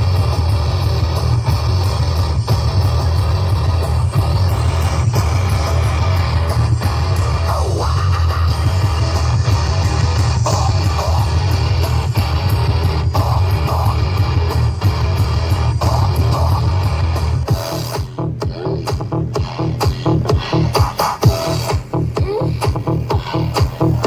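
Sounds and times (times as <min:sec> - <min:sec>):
loud rock music with guitar: 0:00.0 - 0:19.3.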